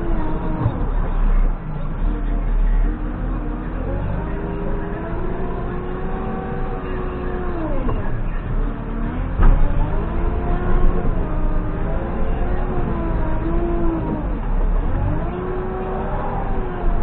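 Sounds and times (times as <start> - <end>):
diesel engine and hydraulics droning: 0.0 - 17.0.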